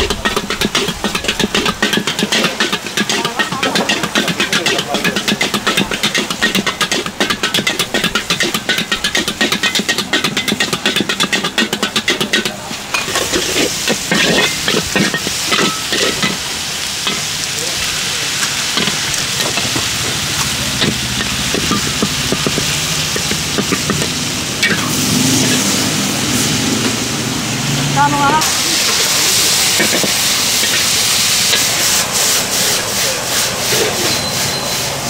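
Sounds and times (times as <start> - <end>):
metal spatula scraping wok: 0.0 - 26.6, 28.0 - 34.9
food sizzling in wok: 0.0 - 35.0.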